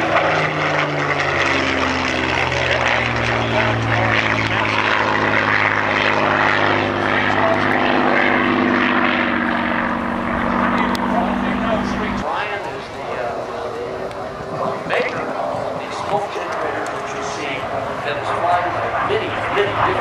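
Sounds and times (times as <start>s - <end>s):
propeller plane engine flying past: 0.0s - 20.0s.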